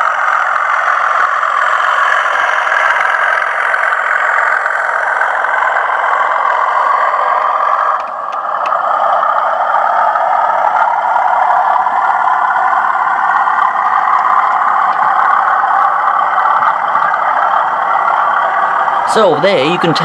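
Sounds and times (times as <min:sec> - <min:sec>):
model train diesel engine sound: 0:00.0 - 0:20.0.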